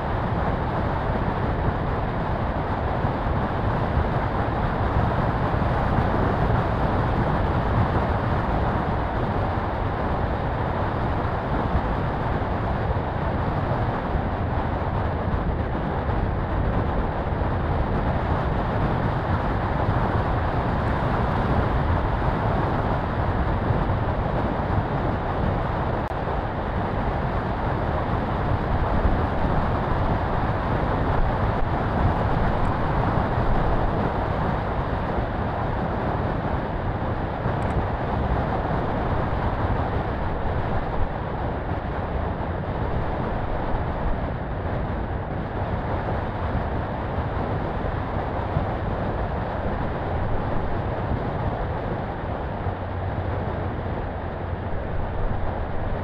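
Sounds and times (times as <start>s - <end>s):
engine rumble: 0.0s - 56.0s.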